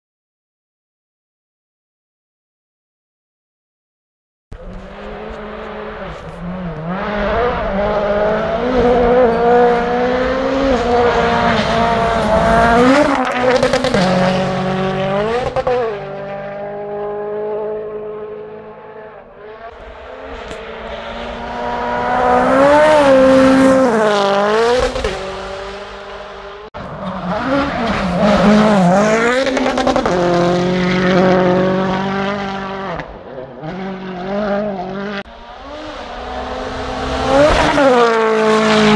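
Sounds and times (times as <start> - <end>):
rally car engine revving: 4.6 - 38.9.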